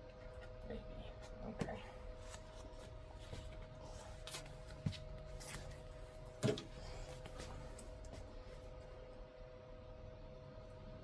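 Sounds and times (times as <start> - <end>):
faint two-tone hum: 0.0 - 11.0.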